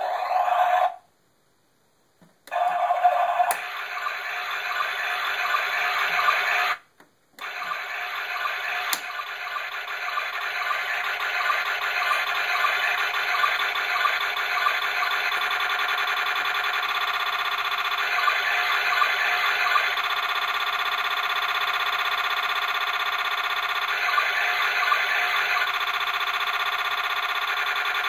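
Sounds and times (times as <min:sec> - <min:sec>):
glitched electronic toy loop: 0:02.5 - 0:06.8, 0:07.4 - 0:28.0.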